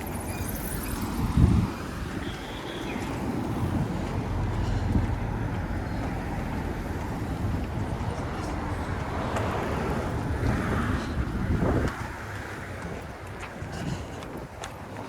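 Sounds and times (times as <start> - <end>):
city street traffic: 0.0 - 15.0
wind buffeting microphone: 0.0 - 15.0.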